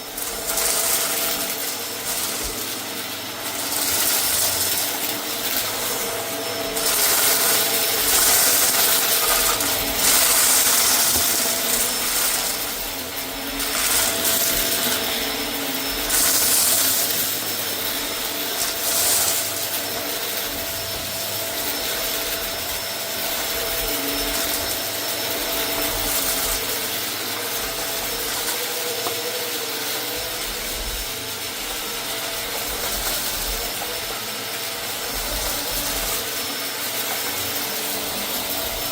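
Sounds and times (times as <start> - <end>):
vacuum cleaner running over rug: 0.0 - 38.9.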